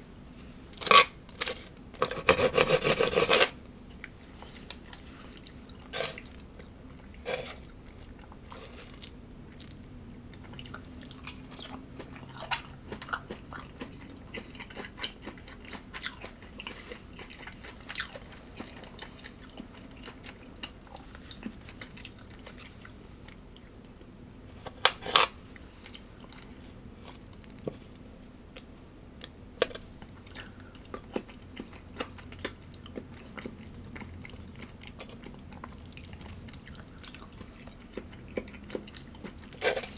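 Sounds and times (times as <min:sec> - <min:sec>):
person chewing crunchy food: 0:00.8 - 0:23.8, 0:24.4 - 0:39.9.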